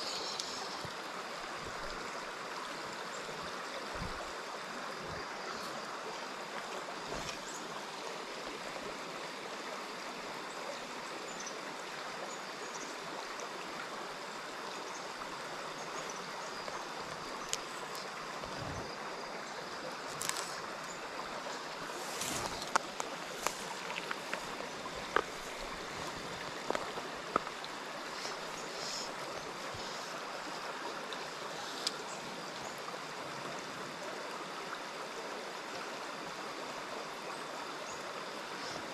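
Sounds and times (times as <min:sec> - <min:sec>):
rocky stream flowing: 0:00.0 - 0:38.9.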